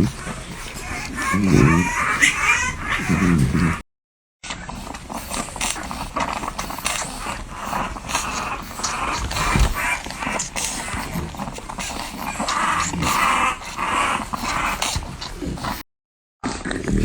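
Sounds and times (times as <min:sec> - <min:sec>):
puppies suckling wet clicking: 0:00.0 - 0:03.8, 0:04.5 - 0:15.8.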